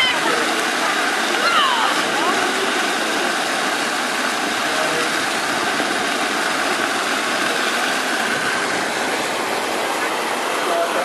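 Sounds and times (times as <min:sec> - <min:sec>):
fountain water splashing into pool: 0:00.0 - 0:11.0.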